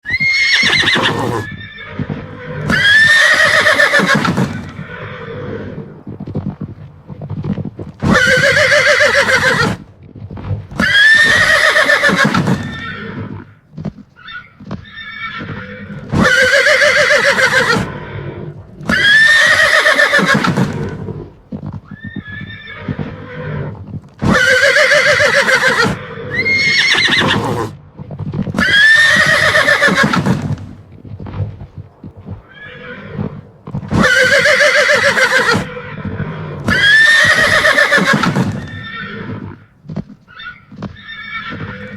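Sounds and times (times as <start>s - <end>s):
horse whinnying: 0.0s - 6.0s, 8.0s - 9.8s, 10.7s - 13.6s, 14.2s - 27.8s, 28.5s - 30.6s, 32.4s - 41.9s.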